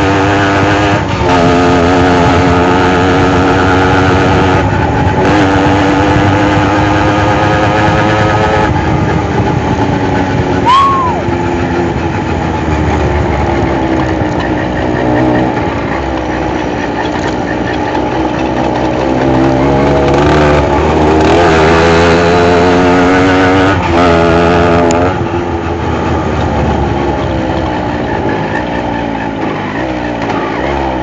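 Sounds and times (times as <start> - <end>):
moped engine running: 0.0 - 31.0.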